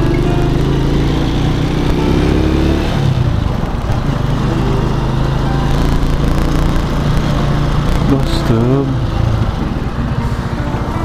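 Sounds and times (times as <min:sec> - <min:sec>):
small motorcycle engine: 0:00.0 - 0:11.0.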